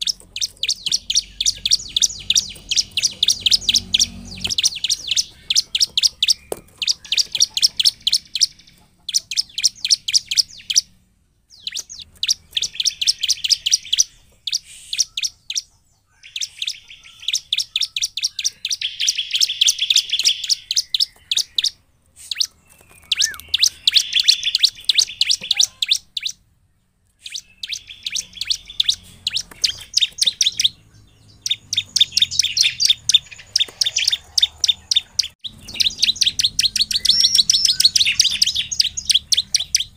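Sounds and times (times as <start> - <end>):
bird singing sharp high chips: 0.0 - 26.4, 27.1 - 39.9.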